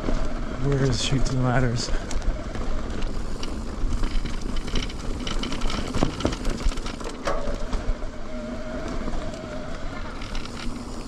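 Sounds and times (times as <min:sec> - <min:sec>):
bike tyre rumble on dirt: 0:00.0 - 0:11.0
chain and frame clatter: 0:00.2 - 0:07.7, 0:09.3 - 0:11.0.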